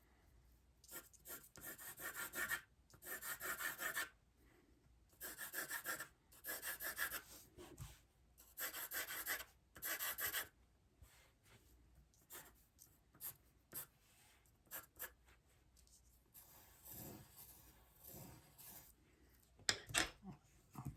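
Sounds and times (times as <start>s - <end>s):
pencil strokes scratching paper: 0.8s - 4.1s, 5.2s - 19.0s.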